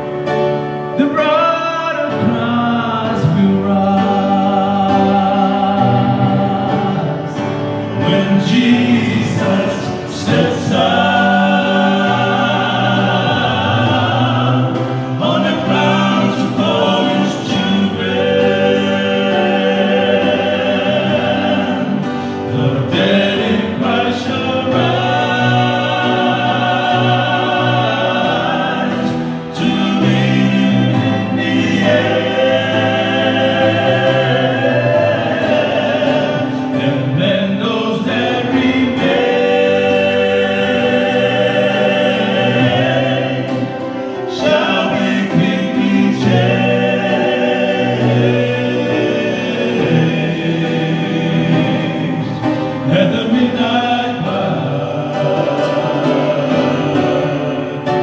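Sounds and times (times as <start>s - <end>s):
male vocal quartet singing: 0.0s - 58.0s.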